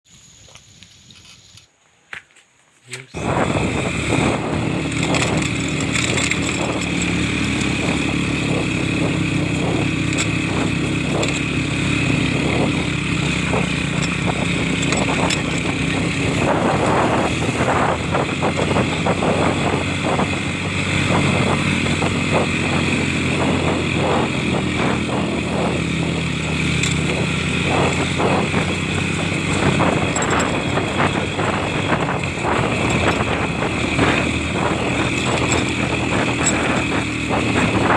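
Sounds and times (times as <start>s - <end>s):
motorcycle engine droning: 3.0s - 37.9s.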